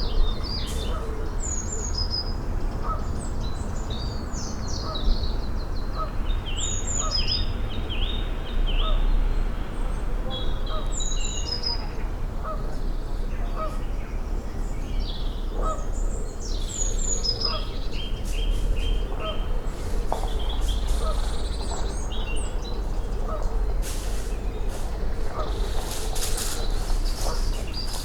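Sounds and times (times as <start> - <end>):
birds singing trills: 0.0 - 28.0.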